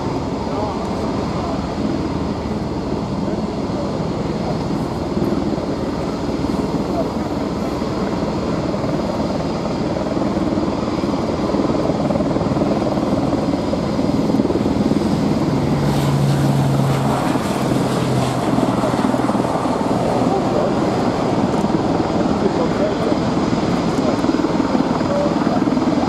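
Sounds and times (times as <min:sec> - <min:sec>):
low propeller hum: 0:00.0 - 0:26.0
turboprop engines at full power: 0:00.0 - 0:26.0.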